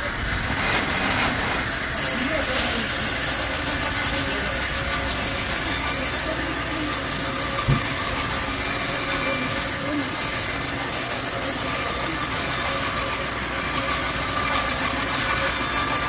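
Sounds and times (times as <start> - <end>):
sawmill blade sawing timber: 0.0 - 16.0.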